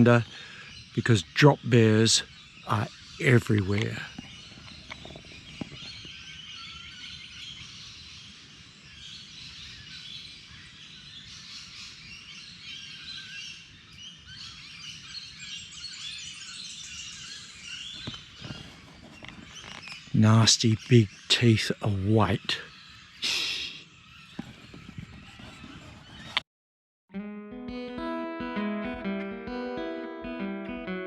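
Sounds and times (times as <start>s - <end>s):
birds chirping: 0.0s - 26.4s.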